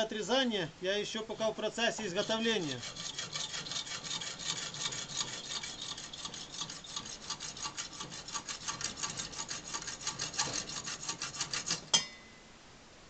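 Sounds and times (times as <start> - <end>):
hacksaw cutting metal: 1.3 - 12.2.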